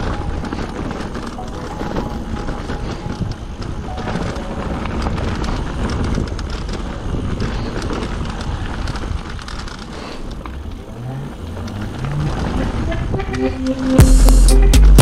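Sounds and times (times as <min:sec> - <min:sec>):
bike rattling over bumps: 0:00.0 - 0:13.4
wind buffeting microphone: 0:00.0 - 0:13.4.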